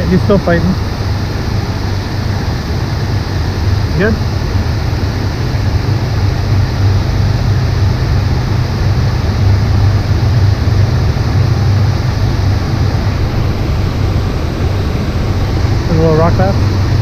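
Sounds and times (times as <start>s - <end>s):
heavy low rumble: 0.0s - 17.0s.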